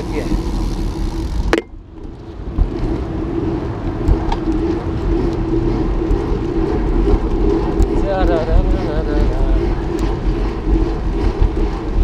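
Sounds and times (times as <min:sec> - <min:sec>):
bicycle tyre rumble on concrete: 0:00.0 - 0:12.0
steady hum: 0:00.0 - 0:12.0
wind buffeting camera: 0:00.0 - 0:12.0.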